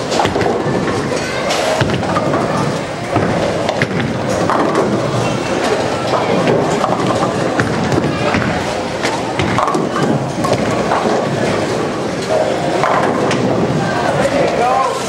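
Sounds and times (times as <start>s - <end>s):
bowling balls rolling: 0.0s - 15.0s
voices in background: 0.0s - 15.0s.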